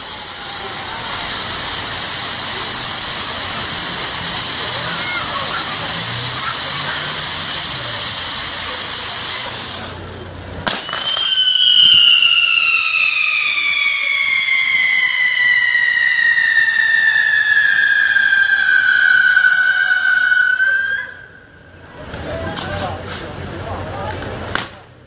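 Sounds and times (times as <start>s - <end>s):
firework whistle sliding down: 0.0s - 10.0s, 10.6s - 21.6s
sharp crack: 0.0s - 21.2s, 24.1s - 24.9s
firework fountains hissing: 0.0s - 25.0s.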